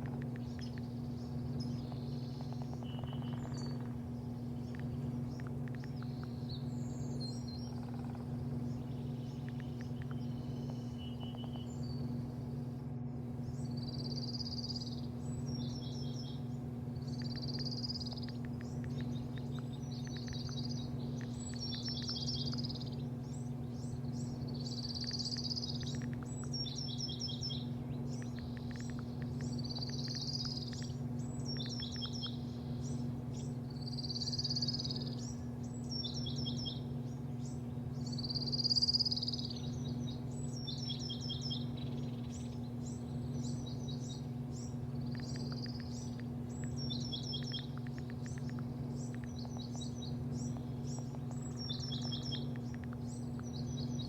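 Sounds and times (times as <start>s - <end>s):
birds chirping: 0.0s - 54.0s
low machine hum: 0.0s - 54.0s.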